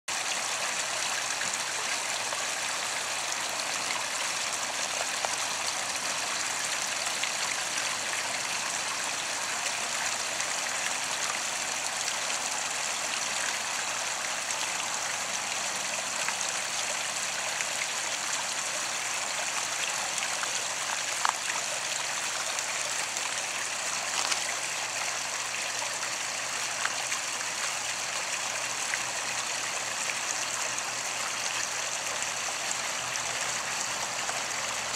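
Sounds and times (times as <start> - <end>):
water splashing and trickling: 0.1 - 34.9.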